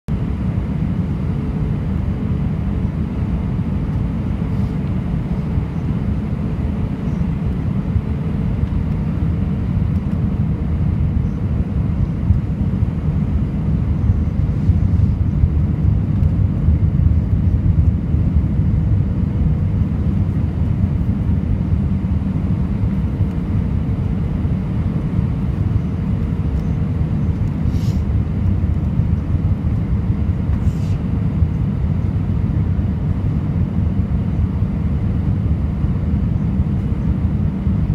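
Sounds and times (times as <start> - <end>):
faint steady hum: 0.1 - 37.9
jet engines rumbling: 0.1 - 37.9.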